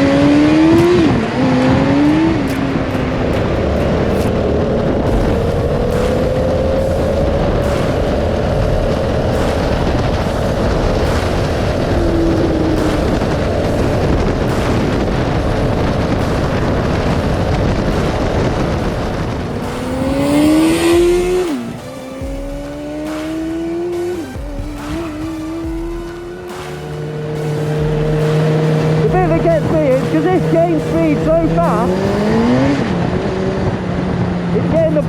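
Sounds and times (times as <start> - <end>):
wind rumble on microphone: 0.0 - 21.8, 27.7 - 35.0
go-kart engine at high revs: 0.0 - 35.0.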